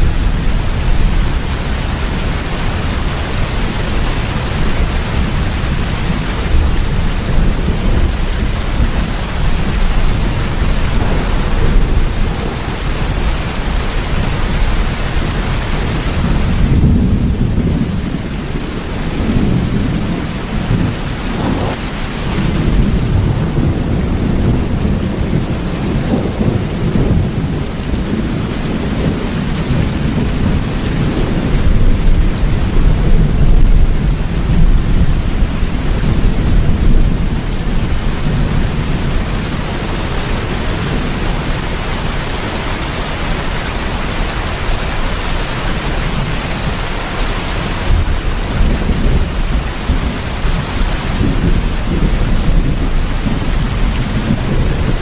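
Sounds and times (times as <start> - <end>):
rolling thunder: 0.0 - 42.1, 44.0 - 55.0
steady rain: 0.0 - 55.0.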